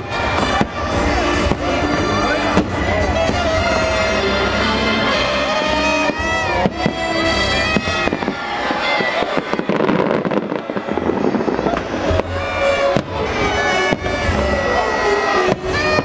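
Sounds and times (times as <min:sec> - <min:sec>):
fireworks bangs and crackle: 0:00.0 - 0:16.0
loud music: 0:00.0 - 0:16.0.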